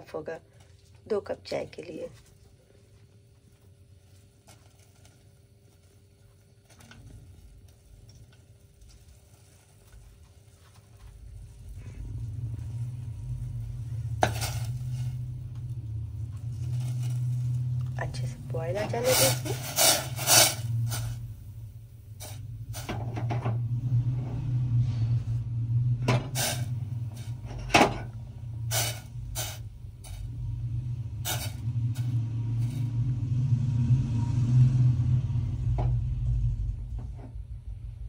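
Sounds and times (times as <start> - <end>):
tea boiling in a pan: 0.5 - 33.6.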